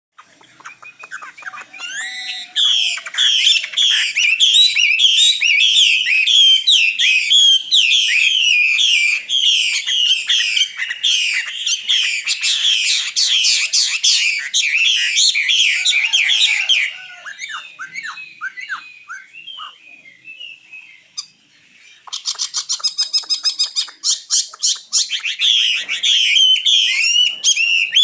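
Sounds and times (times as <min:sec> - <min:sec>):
nightingale singing: 0:00.2 - 0:28.0.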